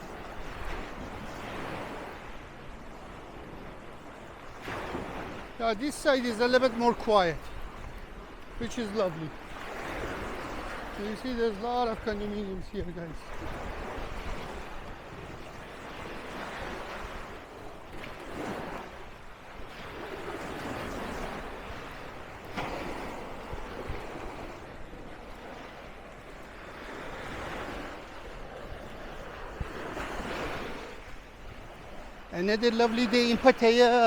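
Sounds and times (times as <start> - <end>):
sea waves breaking on beach: 0.0 - 34.0.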